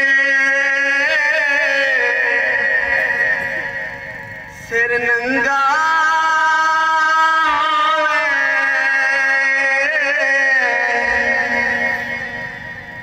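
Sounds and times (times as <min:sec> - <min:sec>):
man singing unaccompanied: 0:00.0 - 0:04.0, 0:04.6 - 0:12.6.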